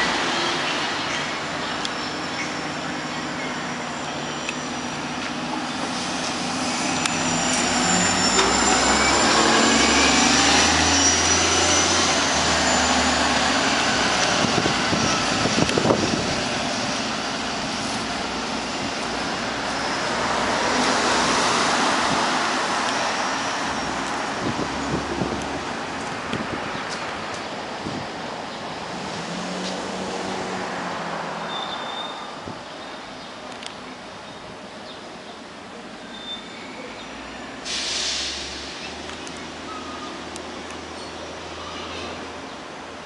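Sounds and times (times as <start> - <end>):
city bus passing: 0.0 - 43.0
passing traffic: 0.0 - 43.0.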